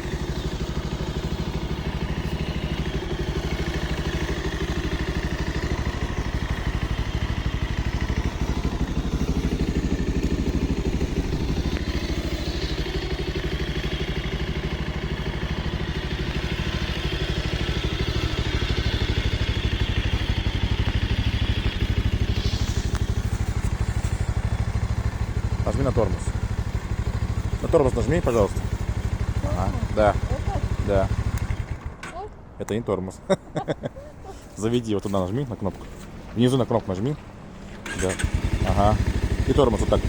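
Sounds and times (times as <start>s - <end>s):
motorcycle engine idling: 0.0s - 32.6s, 33.3s - 40.0s.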